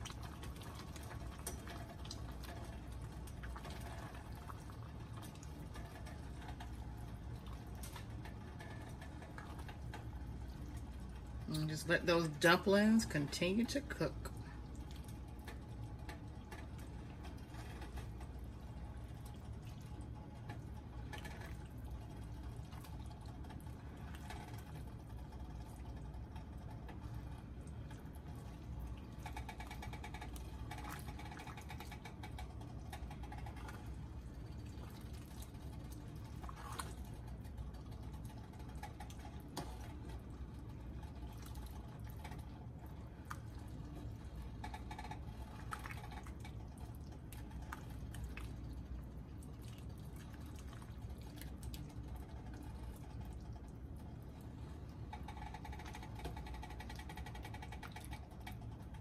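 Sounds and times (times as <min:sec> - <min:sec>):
pot simmering with bubbling: 0:00.0 - 0:59.0
steady low hum: 0:00.0 - 0:59.0.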